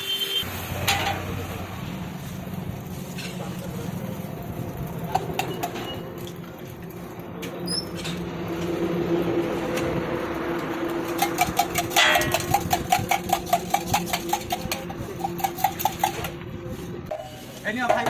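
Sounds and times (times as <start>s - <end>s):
steady cooking hum: 0.1s - 18.0s.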